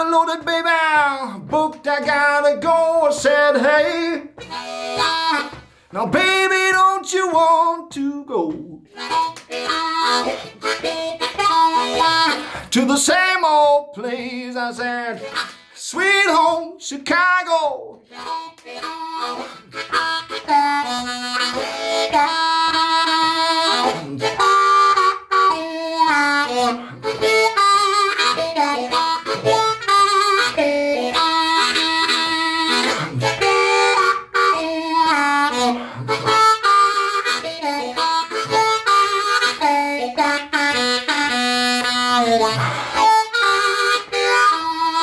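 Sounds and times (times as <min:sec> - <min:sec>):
blues harmonica solo: 0:00.0 - 0:45.0.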